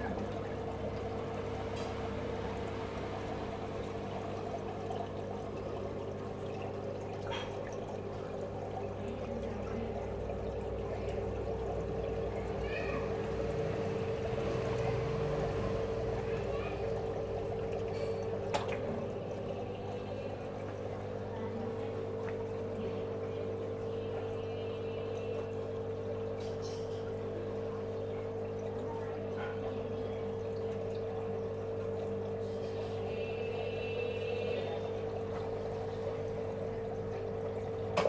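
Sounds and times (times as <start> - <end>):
aquarium equipment humming: 0.0 - 38.0
water trickling and splashing: 0.0 - 38.0.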